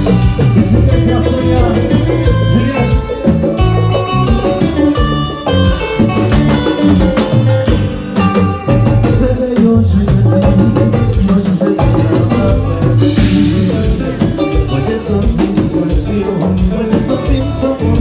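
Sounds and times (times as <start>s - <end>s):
congas: 0.0s - 18.0s
drum kit: 0.0s - 18.0s
electric guitar: 0.0s - 18.0s.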